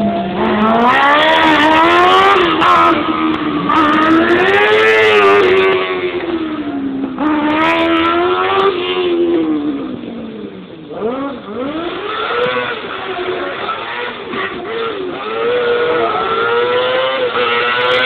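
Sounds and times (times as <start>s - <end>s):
buggy engine revving hard: 0.0s - 18.0s.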